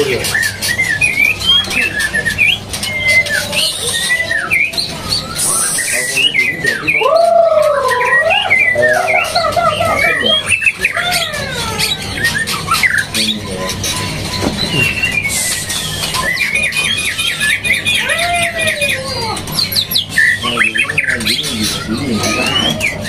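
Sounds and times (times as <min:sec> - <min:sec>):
caged birds singing: 0:00.0 - 0:23.0
low looping bird whistles: 0:00.0 - 0:23.0.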